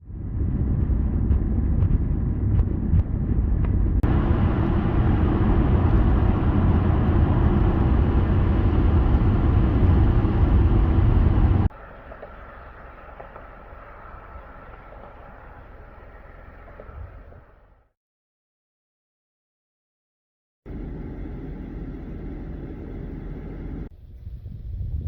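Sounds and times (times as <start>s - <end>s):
car road and engine rumble: 0.0s - 17.8s, 20.7s - 24.0s.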